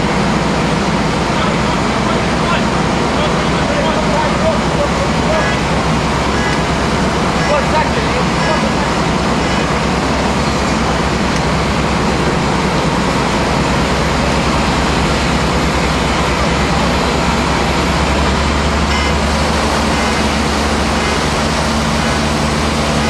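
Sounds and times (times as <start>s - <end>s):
diesel engines droning: 0.0s - 23.0s
steady rushing noise: 0.0s - 23.0s.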